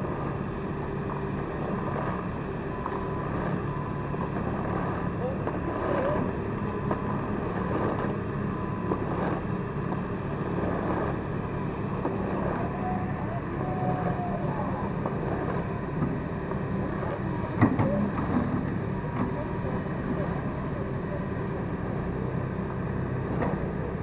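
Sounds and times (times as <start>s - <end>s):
diesel engine running under load: 0.0s - 24.0s
hydraulic whine: 0.0s - 24.0s.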